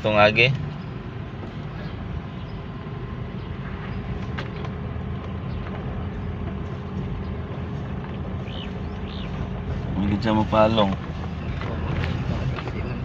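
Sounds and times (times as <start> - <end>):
car engine running: 0.0 - 13.0
road noise: 0.0 - 13.0.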